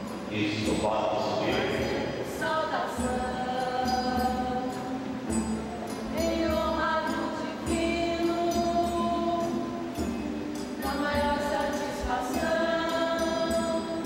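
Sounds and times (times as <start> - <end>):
group singing a hymn: 0.0 - 14.0
guitar: 0.0 - 14.0.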